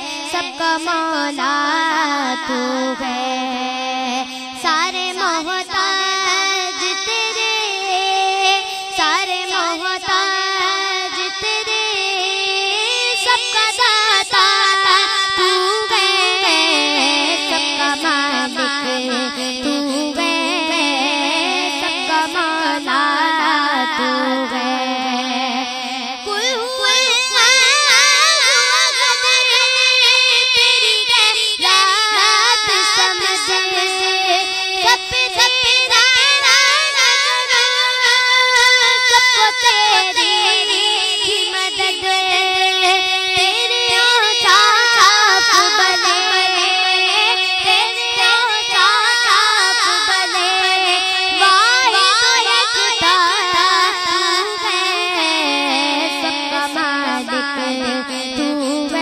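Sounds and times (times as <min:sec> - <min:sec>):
girl singing devotional song: 0:00.0 - 0:59.0.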